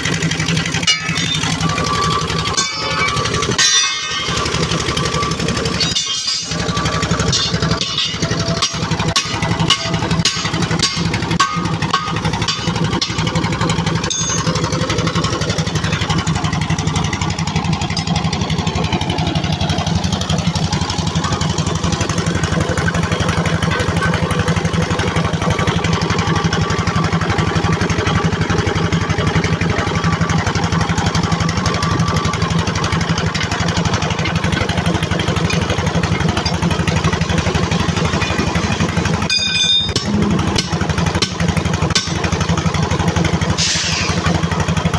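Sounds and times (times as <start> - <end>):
engine running with pulsing beat: 0.0 - 44.9.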